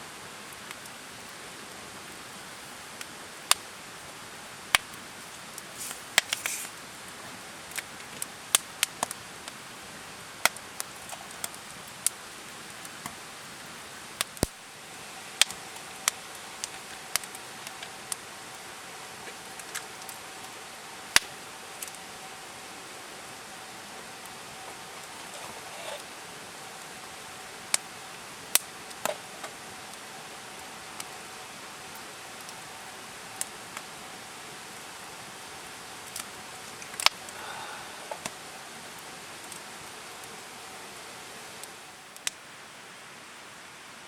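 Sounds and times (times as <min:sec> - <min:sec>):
campfire hissing: 0:00.0 - 0:44.0
fire crackles and pops: 0:00.0 - 0:44.0.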